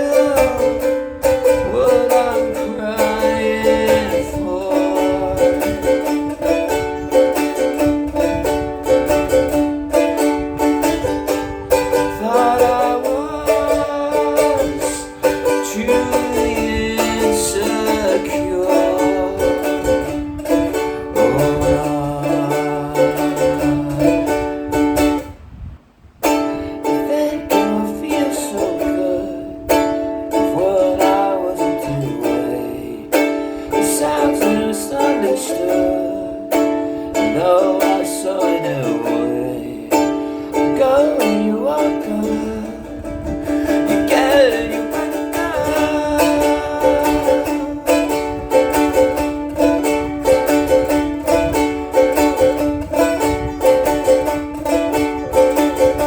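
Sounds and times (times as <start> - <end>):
plucked string instrument music: 0.0 - 56.0.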